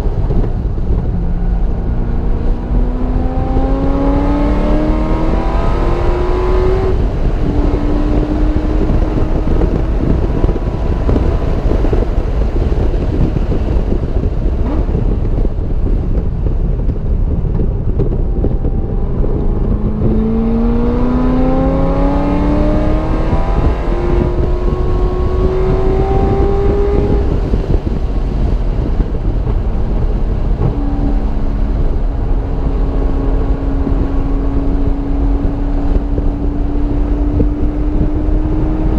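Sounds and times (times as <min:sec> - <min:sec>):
car engine at full throttle: 0:00.0 - 0:38.9
wind and road noise: 0:00.0 - 0:38.9.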